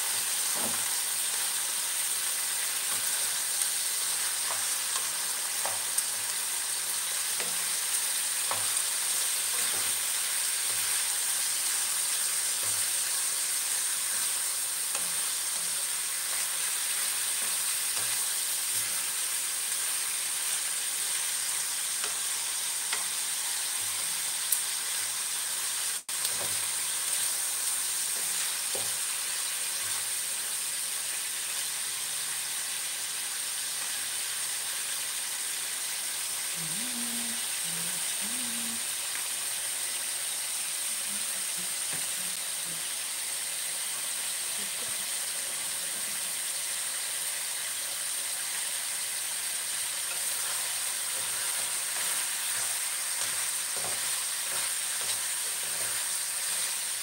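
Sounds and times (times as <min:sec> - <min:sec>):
pork sizzling in hot oil: 0:00.0 - 0:57.0.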